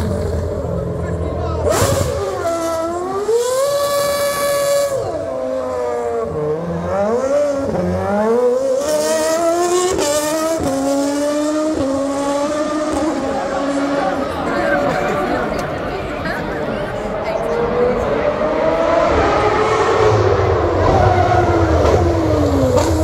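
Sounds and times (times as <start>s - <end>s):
racing car engine revving: 0.0s - 15.8s, 16.9s - 23.0s.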